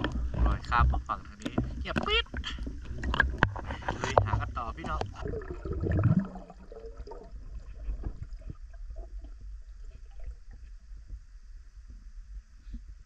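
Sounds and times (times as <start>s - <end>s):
water splashing and gurgling: 0.0s - 11.3s
muffled underwater rumble: 0.0s - 13.0s.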